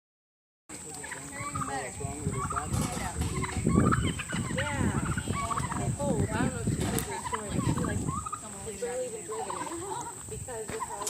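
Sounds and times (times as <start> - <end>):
turkeys gobbling: 0.7 - 11.0.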